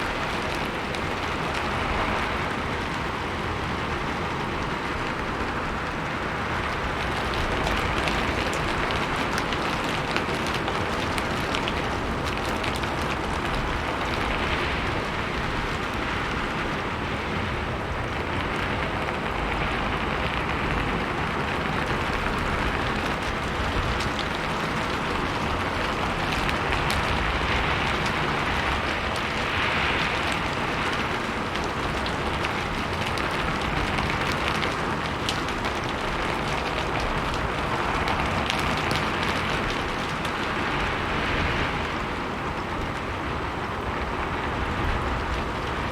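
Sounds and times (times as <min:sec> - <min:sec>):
rain on a roof: 0:00.0 - 0:45.9.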